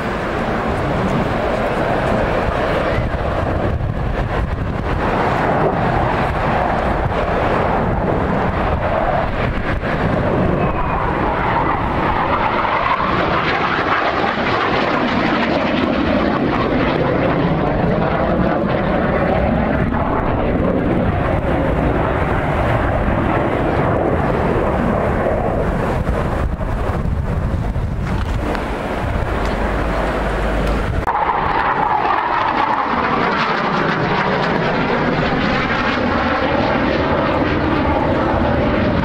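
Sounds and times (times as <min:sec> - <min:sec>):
airplane flying overhead: 0:00.0 - 0:39.0
wind buffeting microphone: 0:00.0 - 0:39.0.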